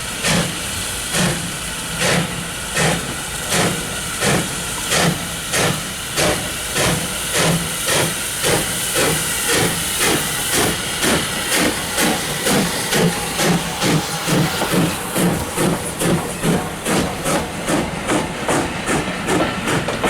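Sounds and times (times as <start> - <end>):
steam hiss: 0.0 - 20.0
steam locomotive chuffing: 0.0 - 20.0.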